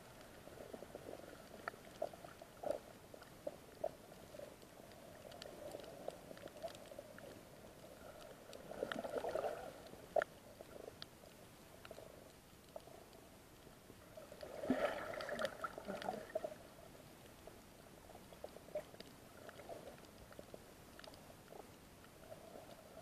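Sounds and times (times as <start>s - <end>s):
sharp underwater clicks and crackles: 0.0s - 23.0s.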